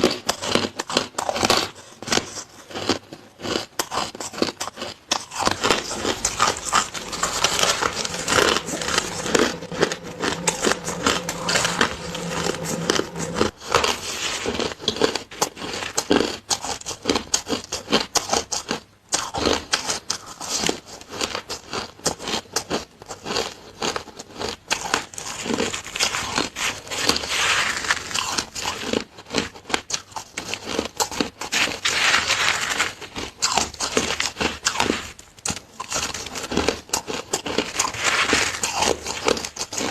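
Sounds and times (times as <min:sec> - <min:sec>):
crunching and chewing shaved ice: 0:00.0 - 0:39.9.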